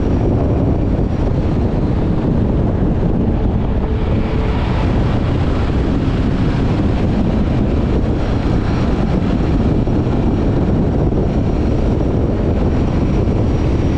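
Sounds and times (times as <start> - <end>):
motorcycle engine rumble: 0.0 - 13.9
road noise: 0.0 - 13.9
wind rush on the microphone: 0.0 - 13.9.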